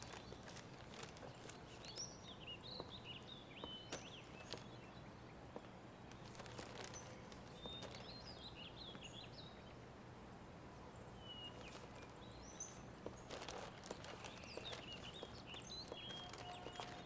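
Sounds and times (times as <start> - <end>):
small birds chirping: 0.0 - 9.8, 10.8 - 17.0
low steady hiss: 0.0 - 17.0.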